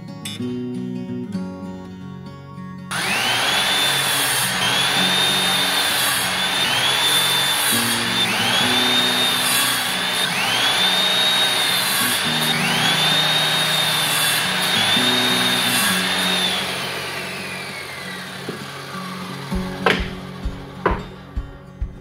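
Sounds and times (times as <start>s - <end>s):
high-pitched power tool whine: 2.9s - 21.0s.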